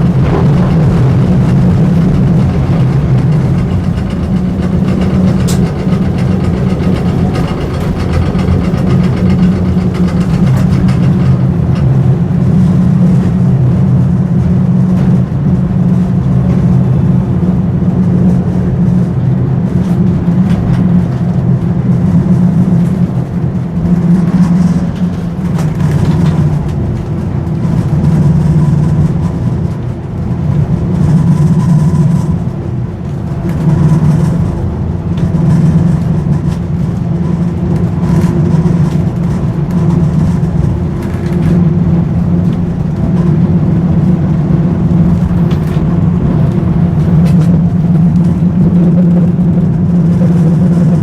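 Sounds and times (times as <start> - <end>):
tram motors humming on rails: 0.0 - 51.0.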